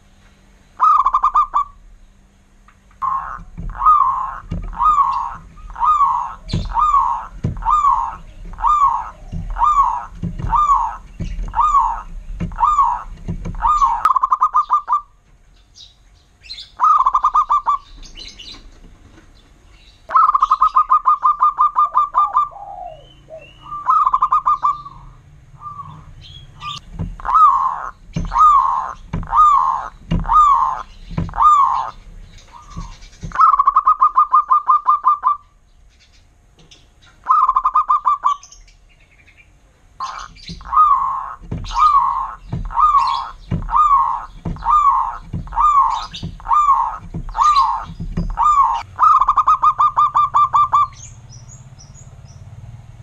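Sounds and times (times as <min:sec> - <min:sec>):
dove cooing: 0:00.8 - 0:01.8, 0:03.0 - 0:15.2, 0:16.7 - 0:18.7, 0:20.1 - 0:35.6, 0:37.2 - 0:38.5, 0:40.0 - 0:51.2.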